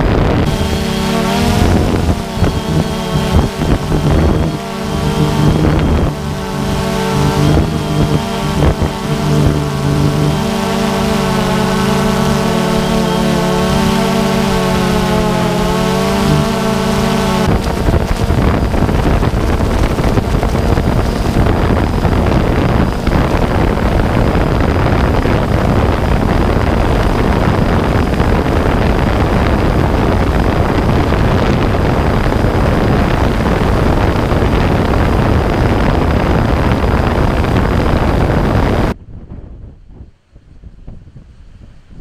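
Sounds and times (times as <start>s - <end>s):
drone propellers rushing: 0.0s - 39.0s
high motor whine: 0.0s - 39.0s
wind on microphone: 0.0s - 42.0s.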